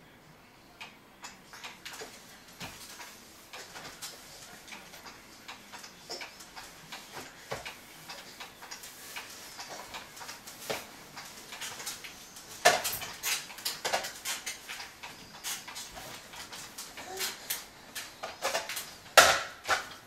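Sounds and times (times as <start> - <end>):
plastic baby swing clicks and knocks: 1.5 - 20.0.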